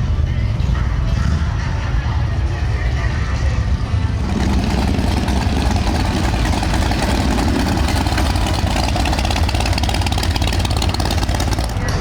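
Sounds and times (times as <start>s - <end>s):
motorcycle engines idling: 2.3s - 12.0s.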